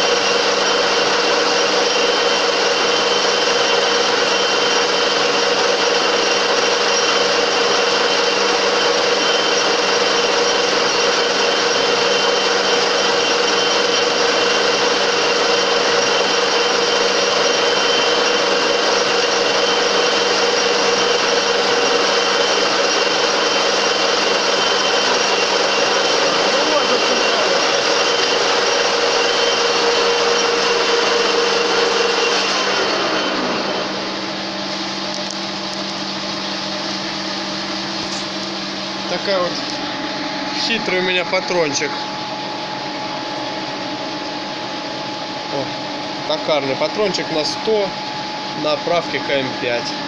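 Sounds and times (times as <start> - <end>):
metal lathe humming: 0.0 - 50.0.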